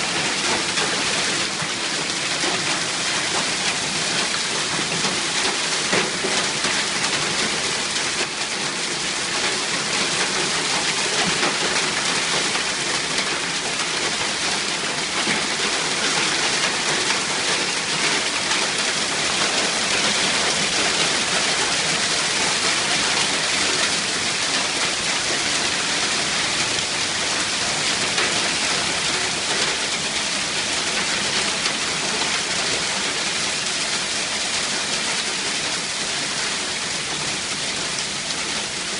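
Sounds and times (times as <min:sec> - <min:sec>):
hail and rain falling: 0:00.0 - 0:38.9.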